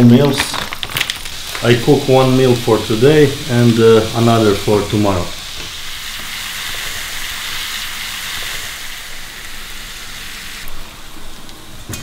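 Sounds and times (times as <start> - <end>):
fish sizzling in a frying pan: 1.0 - 11.4.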